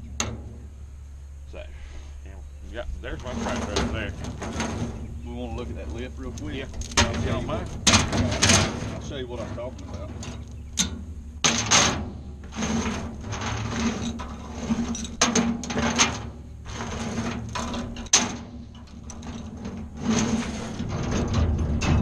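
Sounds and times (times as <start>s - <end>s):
metallic clanks and rattles: 0.0s - 0.8s, 3.0s - 22.0s
steady low hum: 0.0s - 22.0s.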